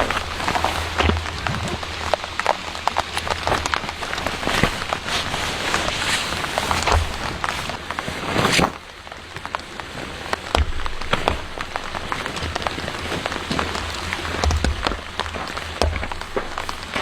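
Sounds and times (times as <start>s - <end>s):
rain falling on a surface: 0.0s - 17.0s.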